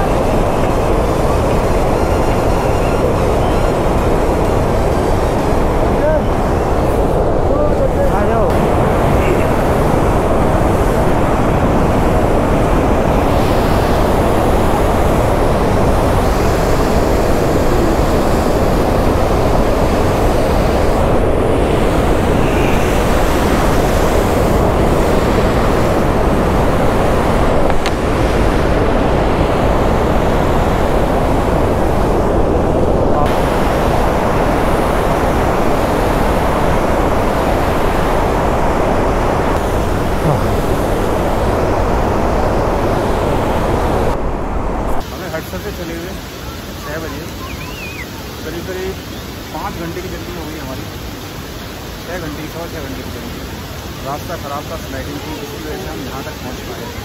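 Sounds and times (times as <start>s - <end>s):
stream rushing over boulders: 0.0s - 57.0s.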